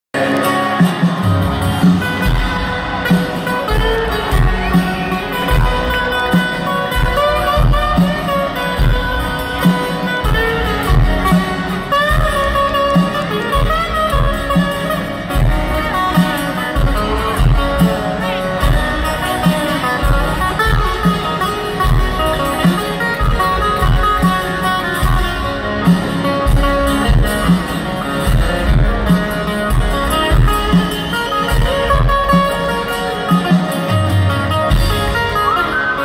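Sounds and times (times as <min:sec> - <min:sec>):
live band music: 0:00.2 - 0:36.0
strummed acoustic guitars: 0:00.2 - 0:36.0.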